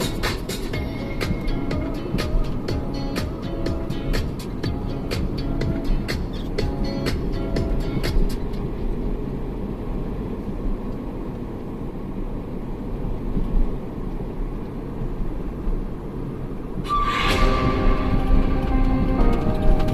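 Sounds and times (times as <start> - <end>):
car driving on road: 0.0 - 19.9.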